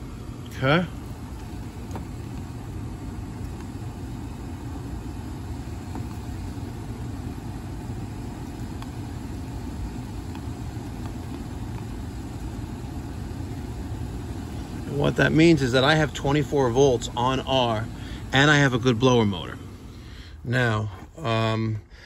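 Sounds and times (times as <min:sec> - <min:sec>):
blower motor droning: 0:00.0 - 0:22.0.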